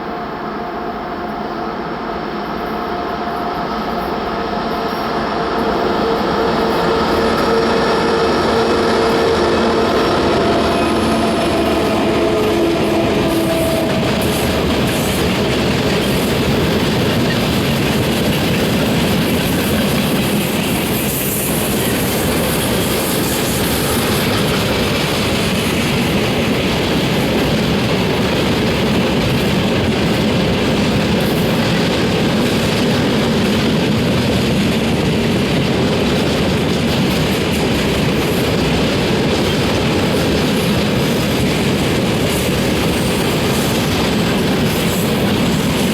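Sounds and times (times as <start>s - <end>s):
train wheels clattering over rails: 4.7s - 45.9s.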